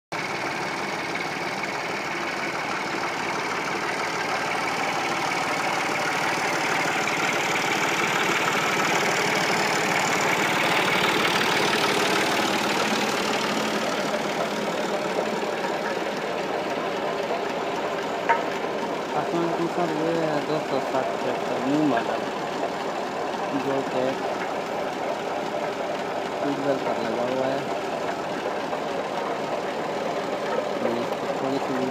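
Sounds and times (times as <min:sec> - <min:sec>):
tractor diesel engine running: 0:00.1 - 0:31.9.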